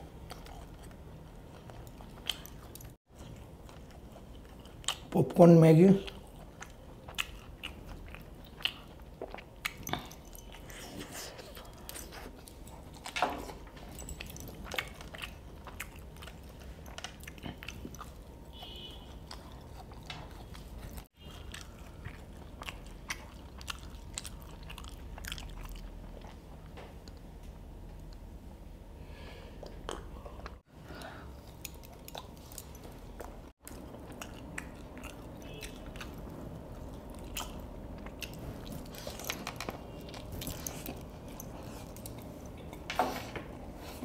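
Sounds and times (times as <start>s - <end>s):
person chewing and crunching food: 0.0s - 27.3s, 29.6s - 42.9s.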